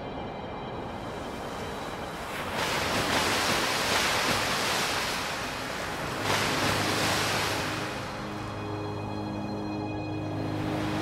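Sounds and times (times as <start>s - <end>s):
sea water rushing and splashing: 0.7s - 11.0s.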